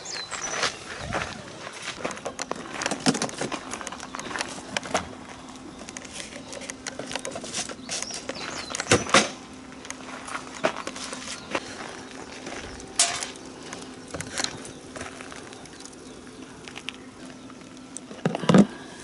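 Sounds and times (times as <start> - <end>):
bird chirping: 0.0 - 1.4, 3.3 - 9.2, 9.8 - 17.9
faint steady hum: 0.0 - 19.0.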